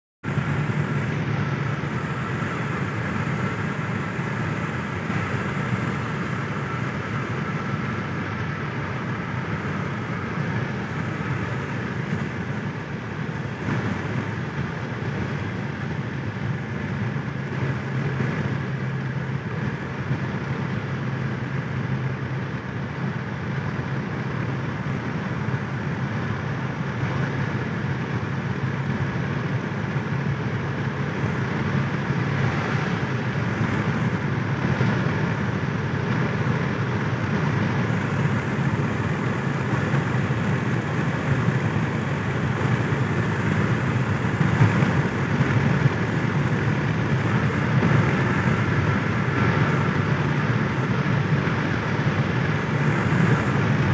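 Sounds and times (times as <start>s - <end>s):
car interior road and engine noise: 0.2s - 53.9s.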